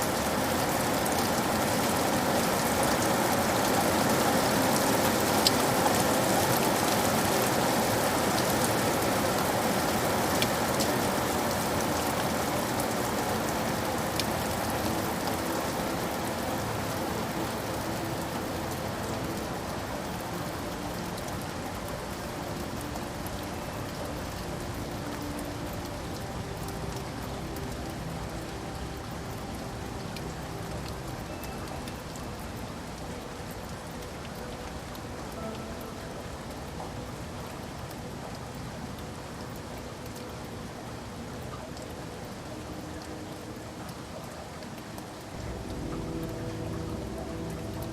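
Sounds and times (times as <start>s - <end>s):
steady rain falling: 0.0s - 47.9s
ticks of single raindrops: 0.0s - 47.9s.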